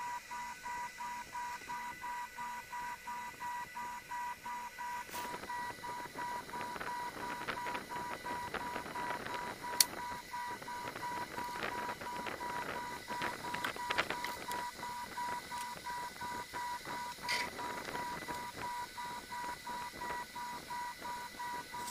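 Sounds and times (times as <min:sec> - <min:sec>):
electronic tone beeping: 0:00.0 - 0:21.9.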